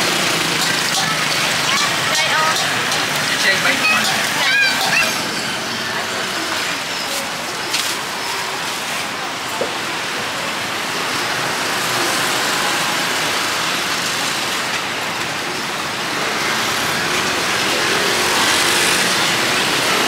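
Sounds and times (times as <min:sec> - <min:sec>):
cars and motorbikes passing: 0:00.0 - 0:20.0.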